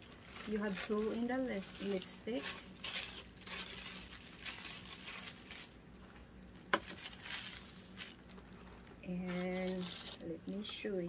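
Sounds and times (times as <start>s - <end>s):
packaging crinkling: 0.0s - 10.2s.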